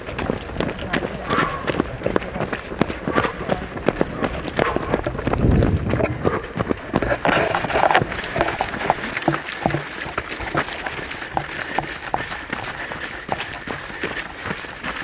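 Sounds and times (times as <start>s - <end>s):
running footsteps on gravel: 0.0s - 15.0s.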